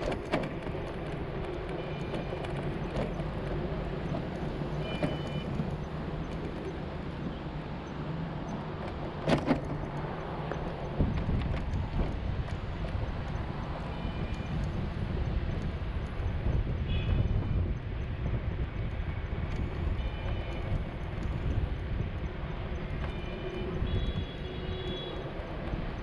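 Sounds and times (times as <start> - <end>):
street ambience rumble: 0.0 - 26.0.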